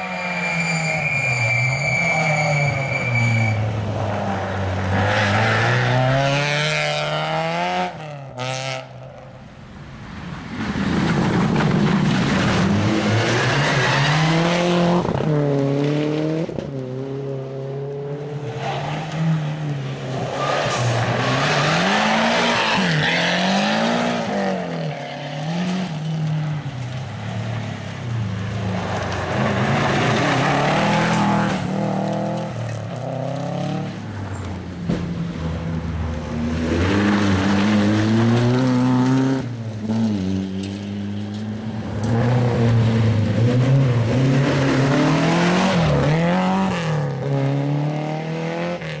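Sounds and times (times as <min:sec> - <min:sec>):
rally car engines revving: 0:00.0 - 0:08.9, 0:10.4 - 0:49.0.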